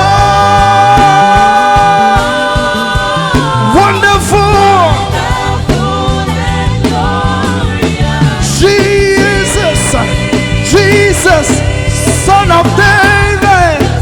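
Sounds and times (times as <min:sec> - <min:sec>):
band with bass and drums: 0:00.0 - 0:14.0
vocalist singing: 0:00.0 - 0:14.0.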